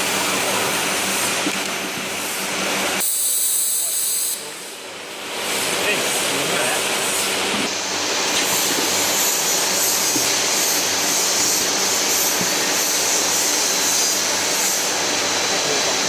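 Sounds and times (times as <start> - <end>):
machine noise: 0.0 - 16.0
compressed air hissing: 2.2 - 4.8, 5.4 - 16.0.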